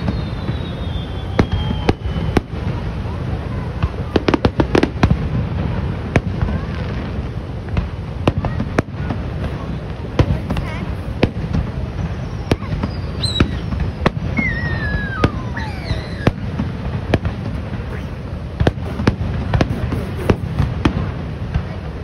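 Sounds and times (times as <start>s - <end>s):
continuous low rumble: 0.0s - 22.0s
fireworks bursting: 0.0s - 22.0s.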